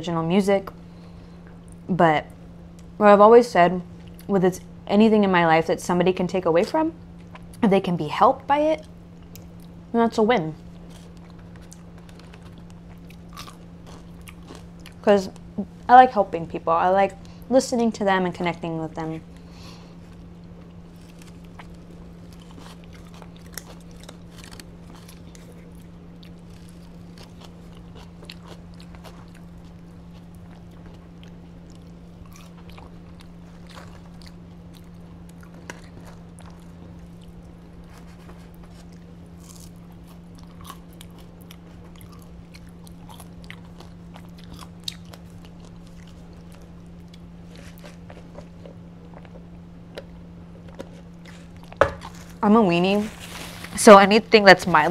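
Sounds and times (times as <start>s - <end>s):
low hum: 0.0s - 54.9s
chewing and crunching food: 3.9s - 4.7s, 6.4s - 7.7s, 8.4s - 17.5s, 18.2s - 54.9s.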